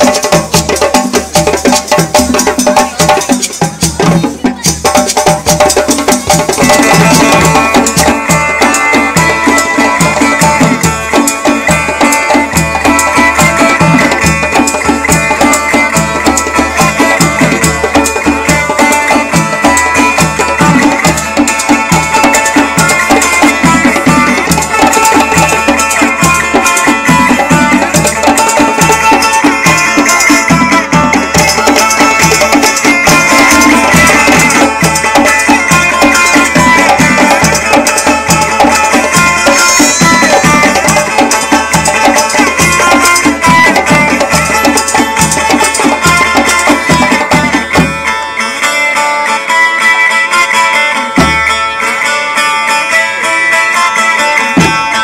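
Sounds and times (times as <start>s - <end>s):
hand drums playing rhythm: 0.0s - 55.0s.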